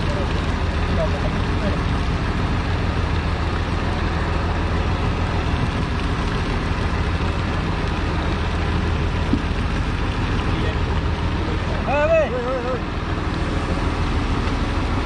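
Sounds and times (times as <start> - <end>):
boat engine humming: 0.0 - 15.0
steady rushing noise: 0.0 - 15.0.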